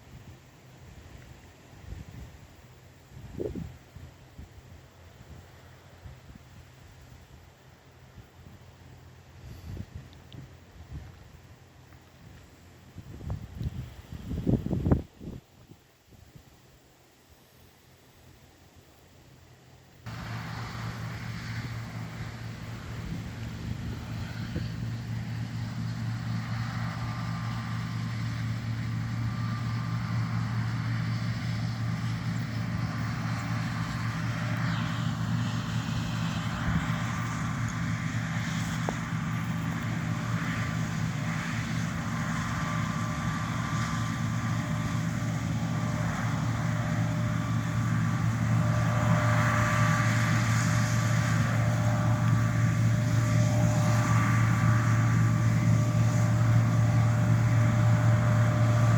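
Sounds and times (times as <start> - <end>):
combine harvester engine drone: 0.0 - 58.9.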